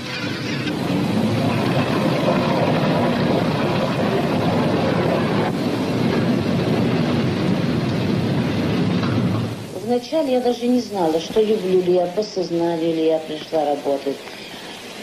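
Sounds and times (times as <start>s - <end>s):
blast furnace roar: 0.0s - 15.0s.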